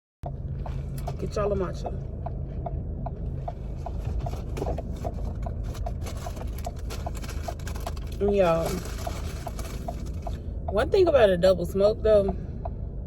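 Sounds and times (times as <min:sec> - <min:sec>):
light regular ticking: 0:00.2 - 0:11.1
low road rumble in car: 0:00.2 - 0:13.0.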